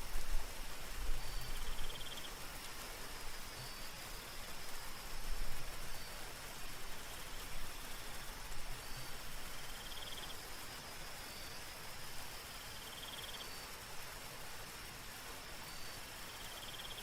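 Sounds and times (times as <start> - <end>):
soft rain falling: 0.0 - 17.0
night insects trilling: 1.2 - 17.0.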